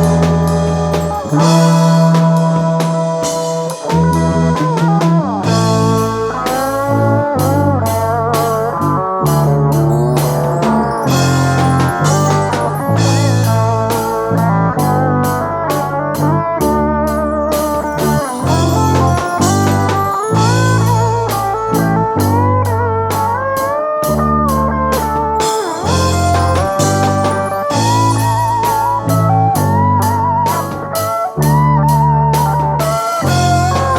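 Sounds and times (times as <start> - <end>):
bass line: 0.0 - 33.9
drums: 0.0 - 33.9
lead guitar solo: 0.0 - 33.9.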